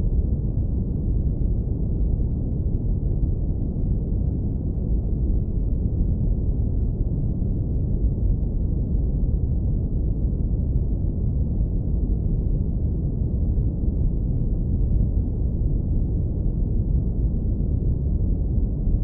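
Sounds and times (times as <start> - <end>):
deep brown noise rumble: 0.0 - 19.0.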